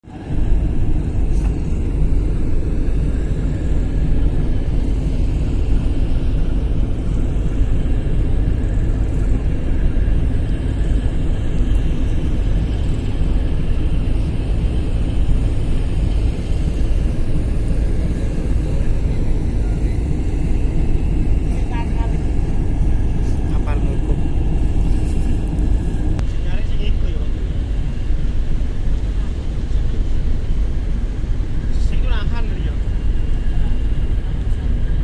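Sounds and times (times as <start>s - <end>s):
loud low rumble: 0.0s - 35.0s.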